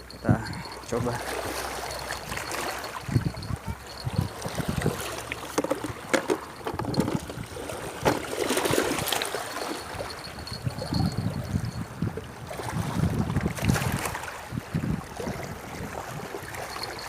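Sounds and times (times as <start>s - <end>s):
water splashing and trickling: 0.0s - 17.0s
wind buffeting microphone: 0.0s - 17.0s.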